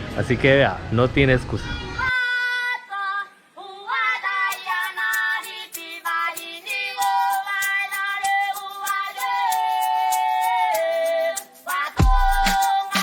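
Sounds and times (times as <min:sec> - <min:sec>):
song with high sung melody: 0:02.1 - 0:13.0.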